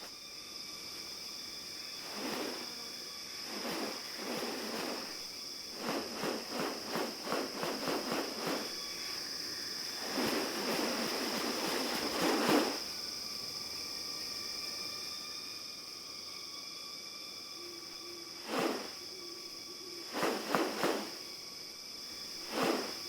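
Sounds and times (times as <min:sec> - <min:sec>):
insects high-pitched drone: 0:00.0 - 0:23.0.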